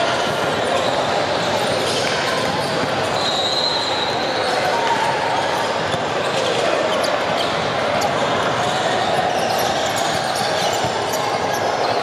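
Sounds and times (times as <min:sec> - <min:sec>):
echoing din of voices: 0:00.0 - 0:12.0
sneaker squeaks: 0:00.6 - 0:12.0.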